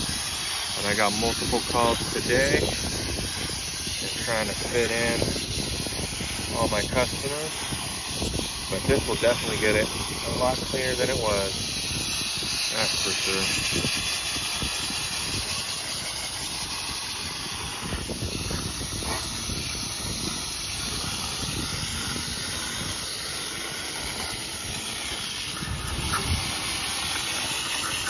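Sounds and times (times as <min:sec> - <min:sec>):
hose nozzle spraying water: 0:00.0 - 0:28.0.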